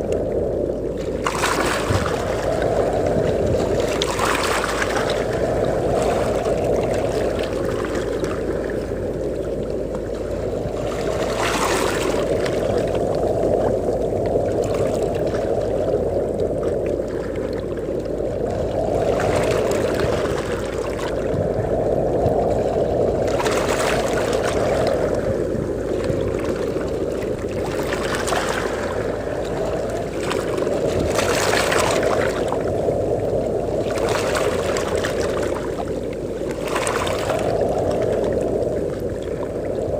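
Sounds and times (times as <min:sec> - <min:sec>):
sea waves washing onto beach: 0:00.0 - 0:39.9
wind: 0:00.0 - 0:39.9.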